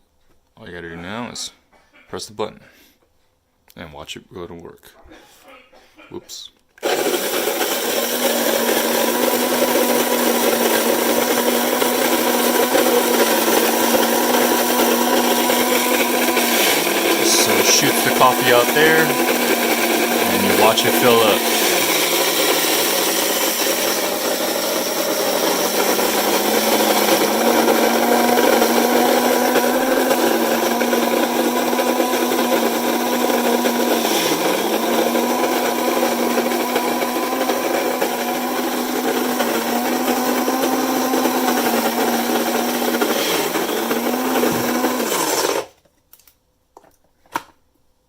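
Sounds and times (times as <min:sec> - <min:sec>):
electric coffee grinder running: 0:06.8 - 0:45.7.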